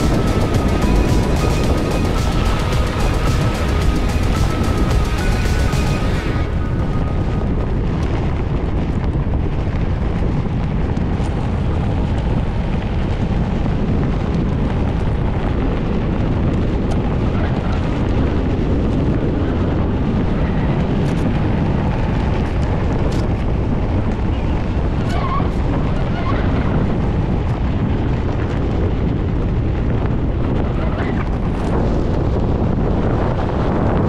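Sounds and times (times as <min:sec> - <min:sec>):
gravel ticking under tyre: 0:00.0 - 0:34.0
wind buffeting microphone: 0:00.0 - 0:34.0.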